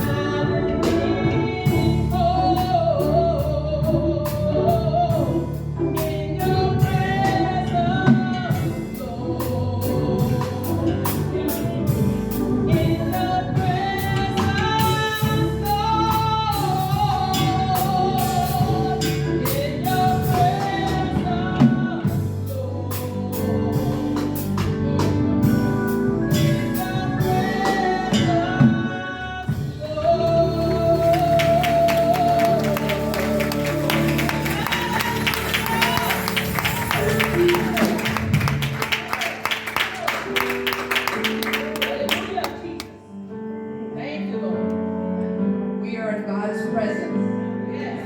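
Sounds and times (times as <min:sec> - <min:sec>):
praise song with band: 0:00.0 - 0:43.0.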